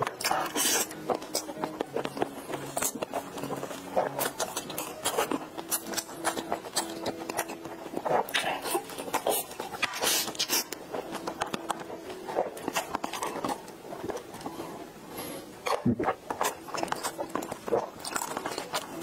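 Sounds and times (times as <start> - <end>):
faint background music: 0.0 - 19.0
wet chewing sounds: 0.0 - 19.0.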